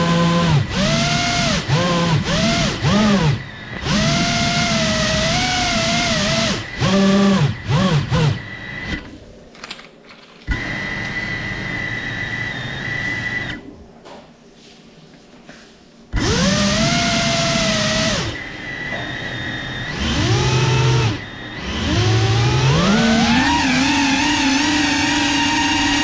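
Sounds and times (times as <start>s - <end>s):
drone motors whining: 0.0s - 9.2s, 10.5s - 13.7s, 16.1s - 26.0s.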